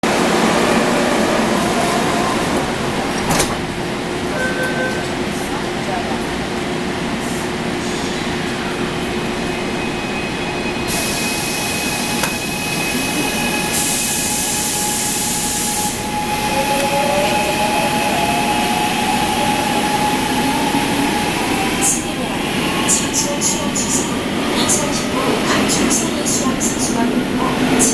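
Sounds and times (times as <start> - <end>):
subway train rumbling: 0.0 - 27.9.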